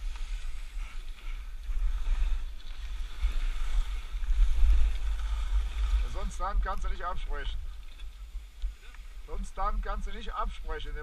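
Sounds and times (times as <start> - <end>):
skis sliding over snow: 0.0 - 11.0
wind rumbling on microphone: 0.0 - 11.0.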